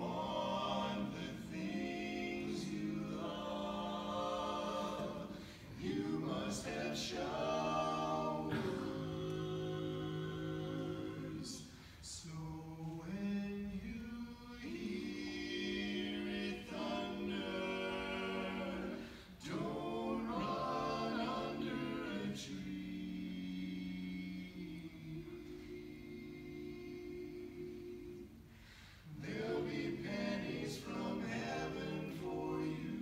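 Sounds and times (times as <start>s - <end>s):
men singing a cappella harmony: 0.0s - 33.0s.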